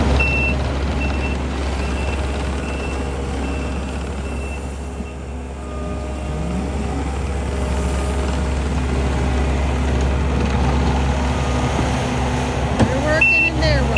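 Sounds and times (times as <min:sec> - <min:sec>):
skid steer engine running: 0:00.0 - 0:13.9
reversing alarm beeping: 0:00.1 - 0:10.0, 0:11.3 - 0:13.9.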